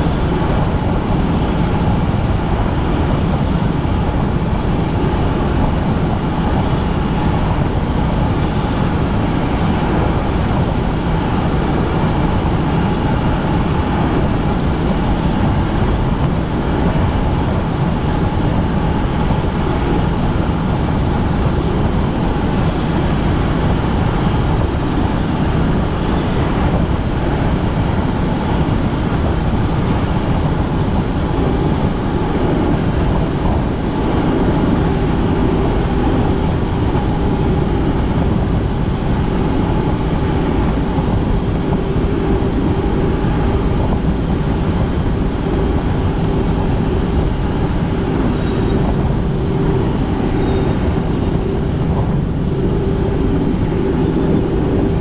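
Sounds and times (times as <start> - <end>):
helicopter rotor and engine: 0.0 - 55.0
steady humming tone: 0.0 - 55.0.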